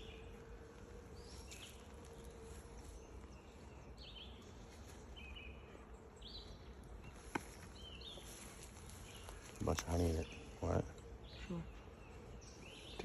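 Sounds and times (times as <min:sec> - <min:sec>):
birds chirping: 0:00.0 - 0:13.0
honeybees humming: 0:00.0 - 0:13.0.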